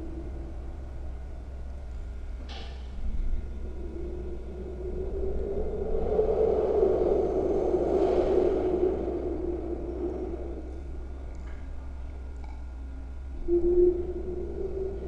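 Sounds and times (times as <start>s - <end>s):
eerie hazy drone: 0.0s - 15.0s
low rumble: 0.0s - 15.0s.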